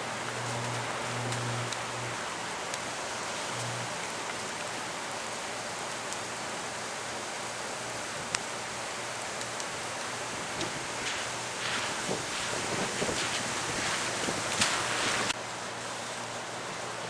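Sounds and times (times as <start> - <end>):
steady hiss: 0.0 - 17.0
transformer electrical hum: 0.0 - 17.0.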